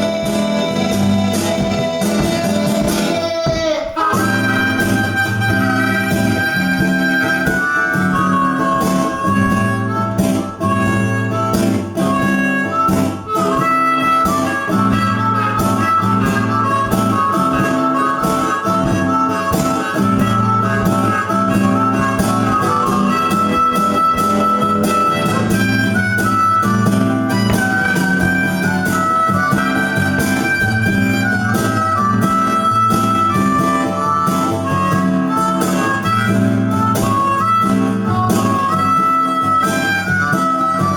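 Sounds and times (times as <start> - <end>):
guitar accompaniment: 0.0 - 40.9
harmonica playing a melody: 0.0 - 40.9.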